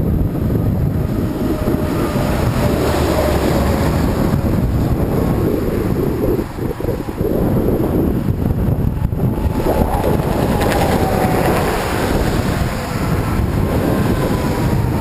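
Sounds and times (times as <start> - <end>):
wind buffeting microphone: 0.0 - 15.0
car overtaking: 0.1 - 15.0.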